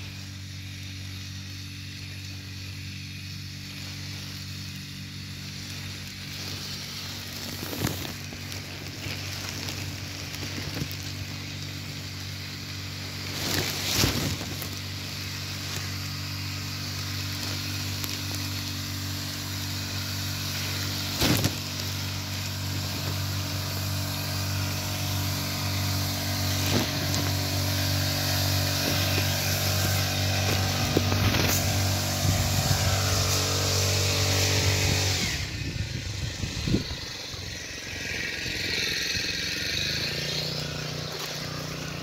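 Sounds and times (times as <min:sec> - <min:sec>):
spray mist hissing: 0:00.0 - 0:35.4
small engine running: 0:00.0 - 0:42.0
loud noise bursts: 0:05.0 - 0:42.0.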